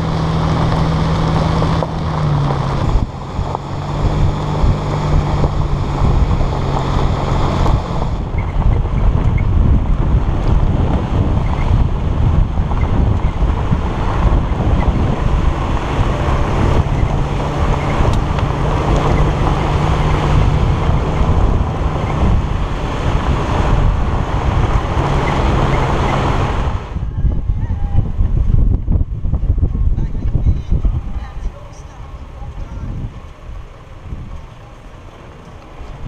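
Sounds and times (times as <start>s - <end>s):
tyres and drivetrain rumble: 0.0s - 36.0s
wind buffeting microphone: 0.0s - 36.0s.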